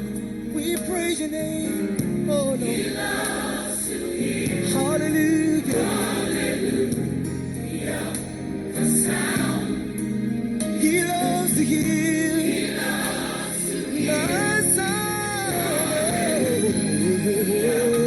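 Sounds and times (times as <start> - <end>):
gospel choir singing: 2.2 - 18.0.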